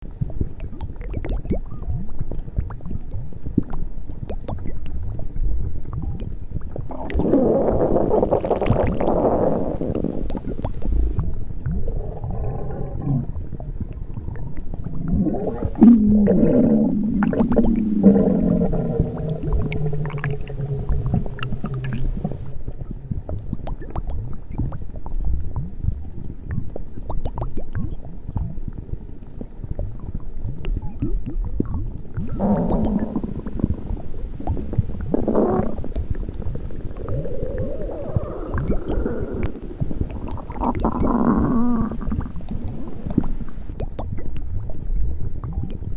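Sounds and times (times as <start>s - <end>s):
constant crackle: 0.0s - 45.9s
stomach growling and gurgling: 0.0s - 45.9s.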